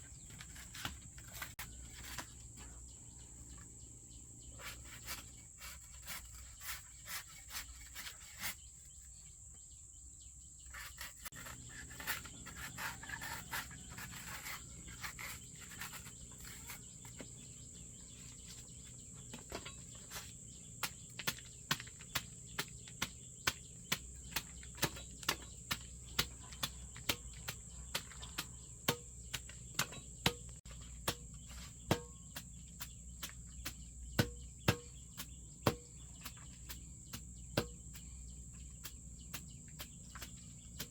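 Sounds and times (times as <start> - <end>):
crickets chirring: 2.0 - 40.9.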